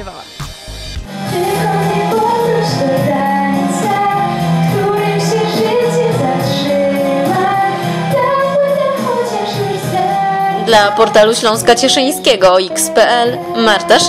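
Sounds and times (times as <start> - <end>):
instrumental accompaniment: 0.0 - 14.0
girl singing a gentle song: 1.3 - 14.0.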